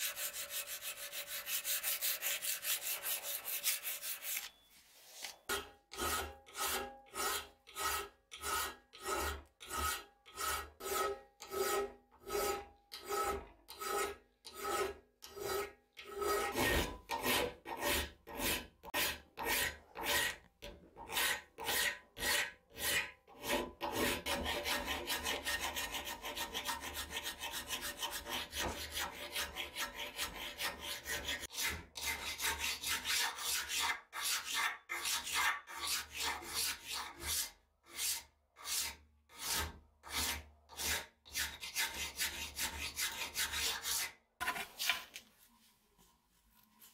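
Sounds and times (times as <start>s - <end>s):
file rasping on steel: 0.0s - 4.6s, 5.5s - 45.0s.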